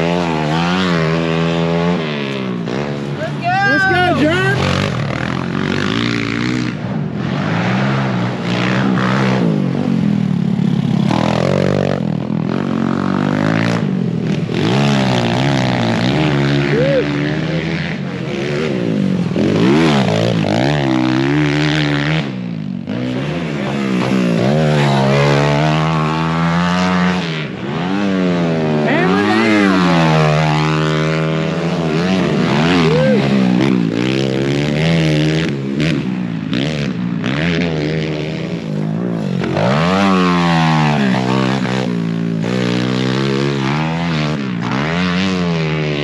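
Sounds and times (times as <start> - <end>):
motorbike engines revving: 0.0 - 46.0.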